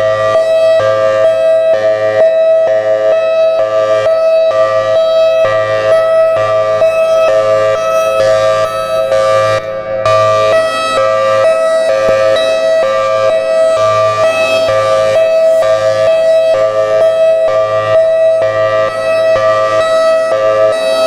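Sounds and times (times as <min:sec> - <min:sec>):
warning siren alternating pitches: 0:00.0 - 0:21.0.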